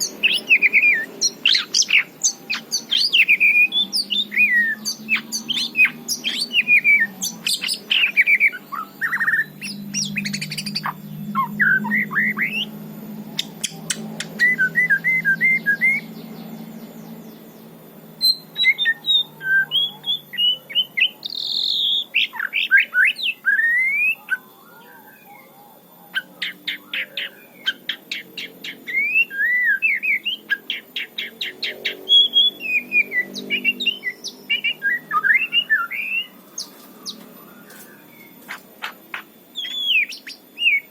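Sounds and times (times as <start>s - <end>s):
bird singing whistled phrases: 0.0s - 12.7s, 13.4s - 16.1s, 18.2s - 25.5s, 26.2s - 40.9s
faint low hum: 0.0s - 40.9s.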